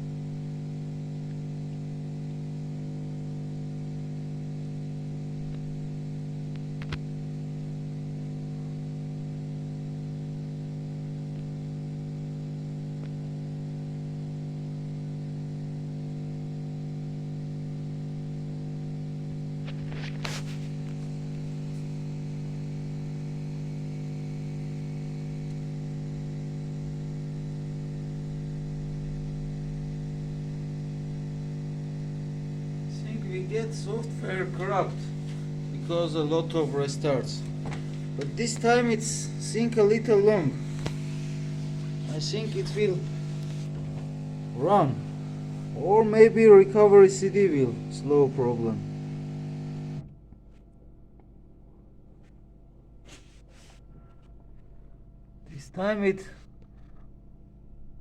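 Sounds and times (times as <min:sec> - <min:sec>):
electrical hum with hiss: 0:00.0 - 0:58.0.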